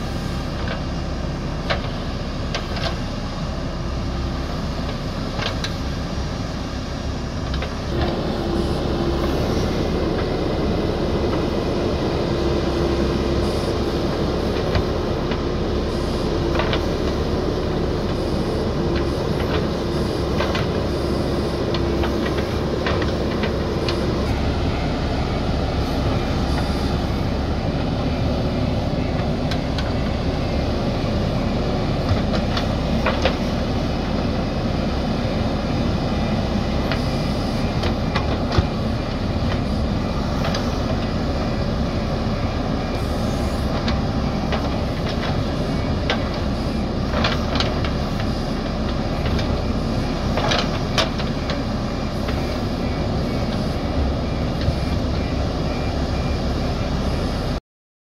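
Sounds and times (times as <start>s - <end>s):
diesel engine running under load: 0.0s - 57.6s.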